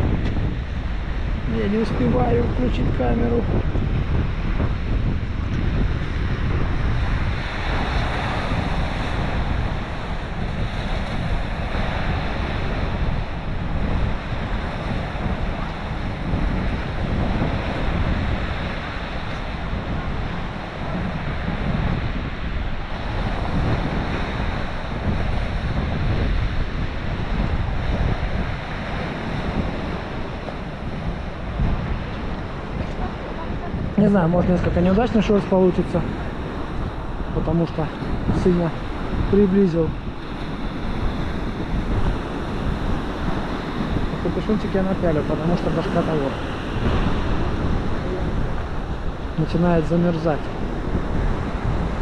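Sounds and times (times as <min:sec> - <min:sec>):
sea surf: 0:00.0 - 0:52.0
wind buffeting microphone: 0:00.0 - 0:52.0.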